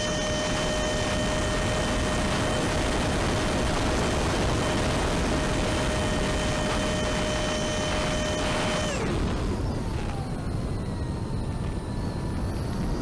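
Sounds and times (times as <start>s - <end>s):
faint steady whine: 0.0s - 13.0s
wind rushing over camera: 0.0s - 13.0s.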